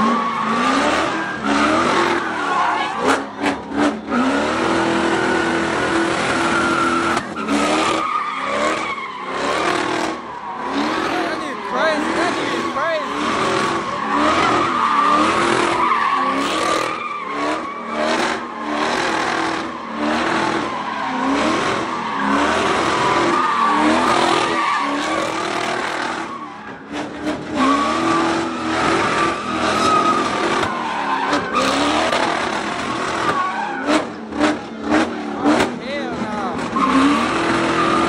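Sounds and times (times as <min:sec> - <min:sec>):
car engine revving: 0:00.0 - 0:38.0
tyres squealing on pavement: 0:00.0 - 0:38.0.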